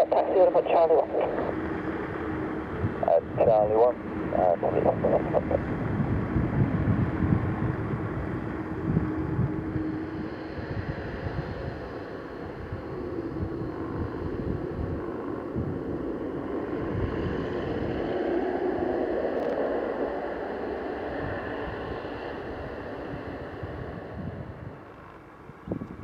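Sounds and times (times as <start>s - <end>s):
aircraft engine rumble: 0.0s - 26.0s
wind buffeting microphone: 0.0s - 26.0s.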